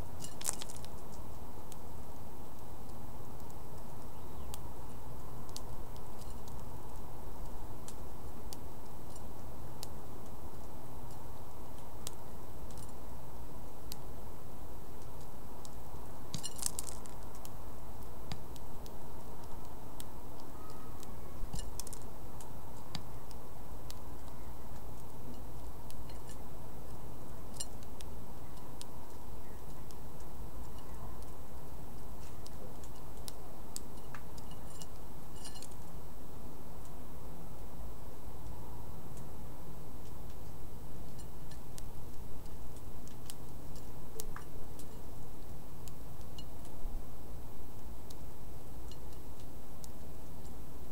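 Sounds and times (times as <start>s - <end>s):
bird beak pecking seeds: 0.0s - 50.9s
low outdoor rumble: 0.0s - 50.9s.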